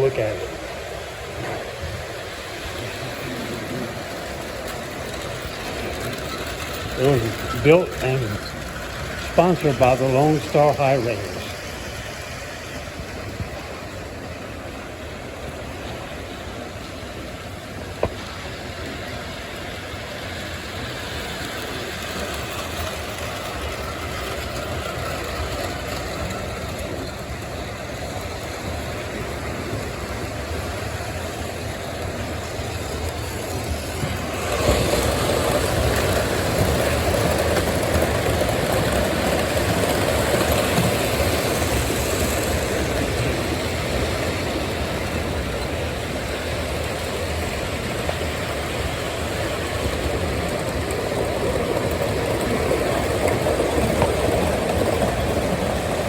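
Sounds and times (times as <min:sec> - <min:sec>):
model trains rumbling on track: 0:00.0 - 0:56.0.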